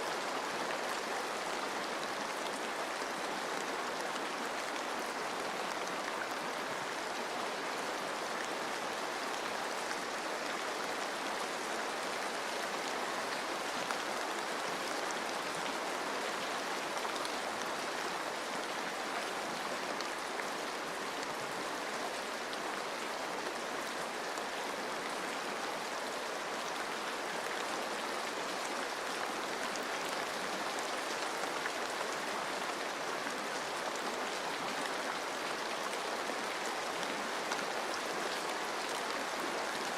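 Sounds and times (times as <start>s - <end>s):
flowing stream: 0.0s - 39.9s
rain falling on leaves: 0.0s - 39.9s.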